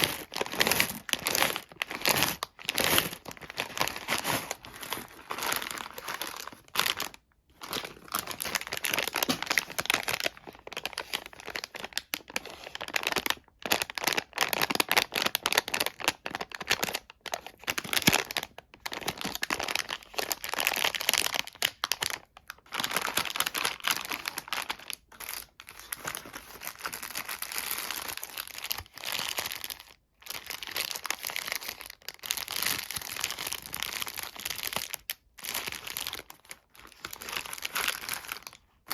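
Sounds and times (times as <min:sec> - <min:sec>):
wrapper crinkling: 0:00.0 - 0:38.9.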